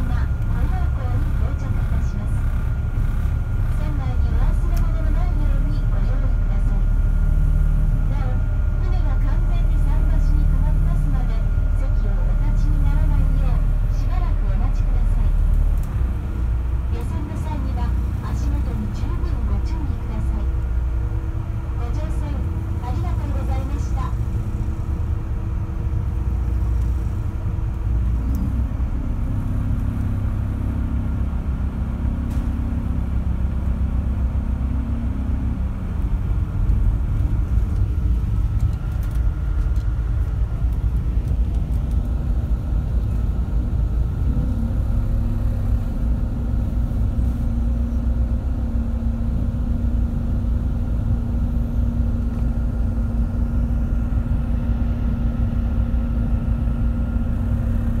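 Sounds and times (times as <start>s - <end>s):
boat engines rumbling: 0.0s - 58.0s.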